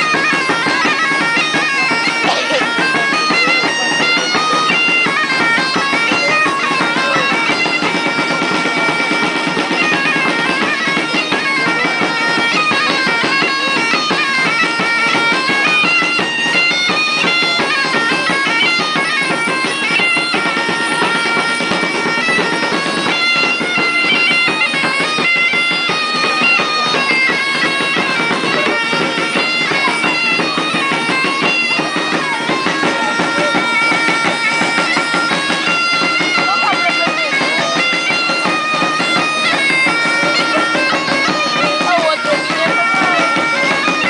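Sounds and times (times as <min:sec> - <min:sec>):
bagpipe melody: 0:00.0 - 0:44.0
drums: 0:00.0 - 0:44.0.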